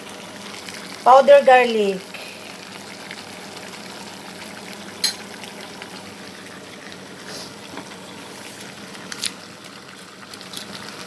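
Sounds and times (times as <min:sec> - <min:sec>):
squid sizzling in a pan: 0:00.0 - 0:11.0.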